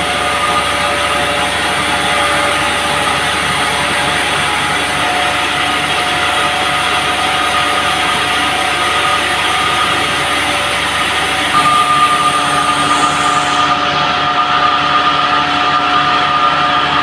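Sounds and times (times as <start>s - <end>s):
band sawmill running with whine: 0.0s - 17.0s.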